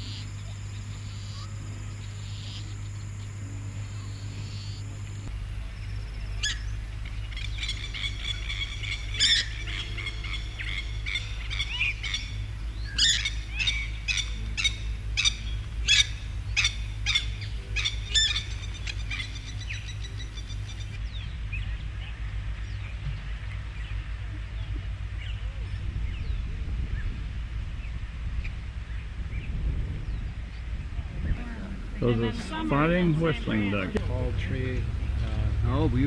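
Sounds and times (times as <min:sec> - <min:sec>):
birds calling: 0:00.0 - 0:36.0
steady low hum: 0:00.0 - 0:36.0.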